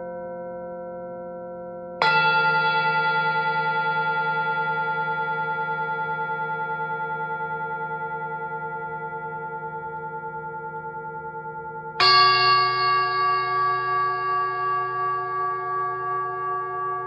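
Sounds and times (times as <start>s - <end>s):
singing bowl ringing: 0.0s - 17.0s.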